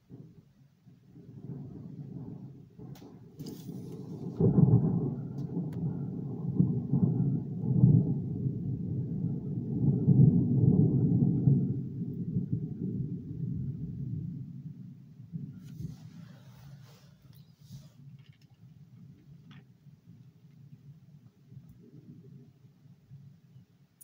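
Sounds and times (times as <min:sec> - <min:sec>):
rolling thunder: 0:00.0 - 0:23.6.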